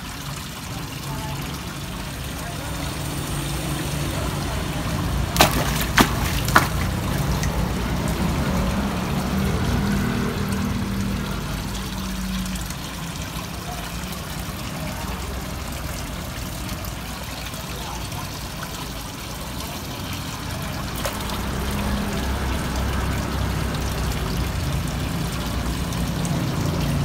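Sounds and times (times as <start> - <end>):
water trickling into pond: 0.0 - 27.0.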